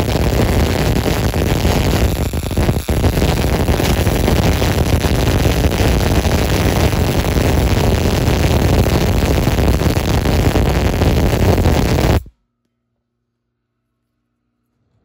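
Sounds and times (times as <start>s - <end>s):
welding arc crackling: 0.0s - 12.3s.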